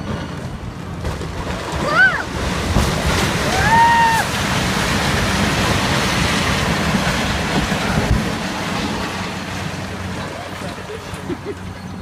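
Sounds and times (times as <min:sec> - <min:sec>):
demolition machinery rumbling: 0:00.0 - 0:12.0.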